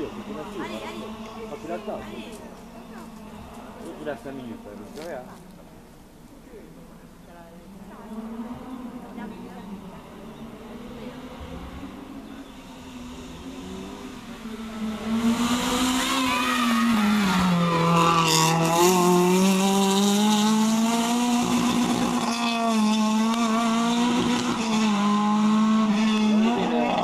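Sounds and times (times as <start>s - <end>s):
rally car engine revving: 0.0s - 4.8s, 7.8s - 27.0s.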